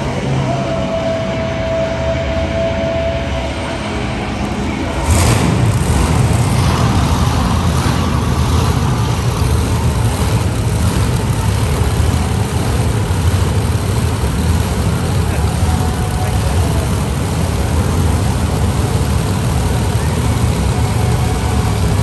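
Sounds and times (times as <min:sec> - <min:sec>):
monster truck engine rumble: 0:00.0 - 0:22.0.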